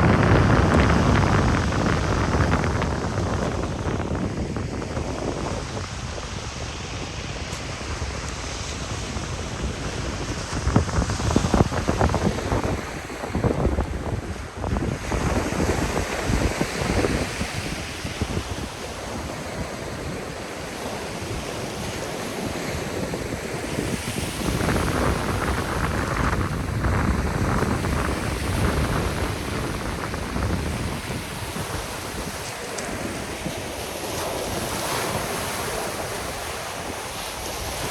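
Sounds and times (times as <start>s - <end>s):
waves washing onto shore: 0.0s - 37.9s
wind buffeting microphone: 0.0s - 37.9s.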